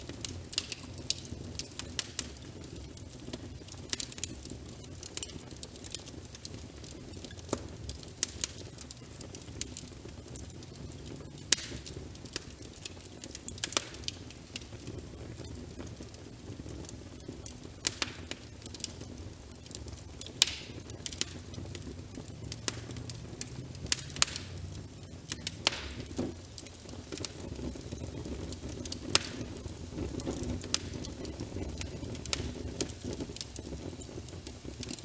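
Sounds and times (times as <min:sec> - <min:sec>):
rain pattering: 0:00.0 - 0:35.0
wood fire crackling: 0:00.0 - 0:35.0.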